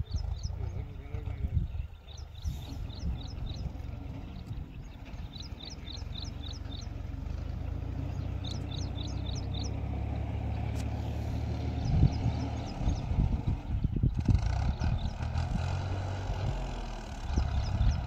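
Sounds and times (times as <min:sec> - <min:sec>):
bird chirping: 0:00.0 - 0:16.0, 0:17.1 - 0:18.0
tractor engine running under load: 0:00.0 - 0:18.0.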